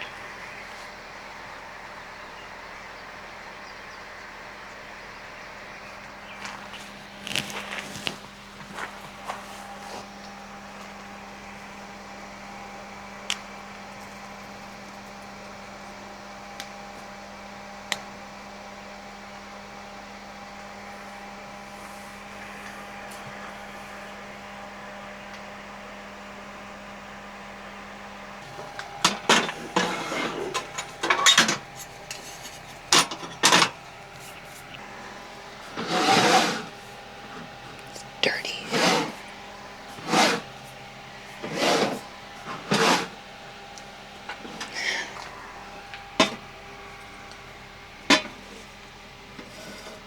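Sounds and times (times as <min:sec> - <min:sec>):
low electric hum: 0:00.0 - 0:50.0.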